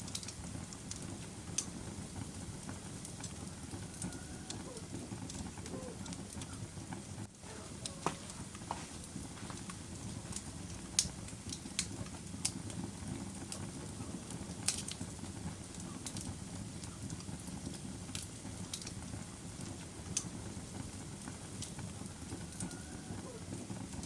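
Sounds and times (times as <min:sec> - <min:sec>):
fire crackling and popping: 0:00.0 - 0:24.0
fire flames rumbling: 0:00.0 - 0:24.0.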